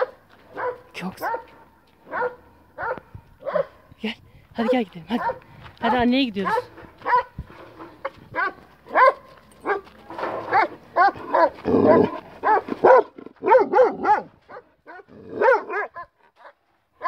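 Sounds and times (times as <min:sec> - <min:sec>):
dog yelping barks: 0:00.0 - 0:03.8, 0:04.6 - 0:07.4, 0:08.3 - 0:09.8, 0:10.4 - 0:16.6.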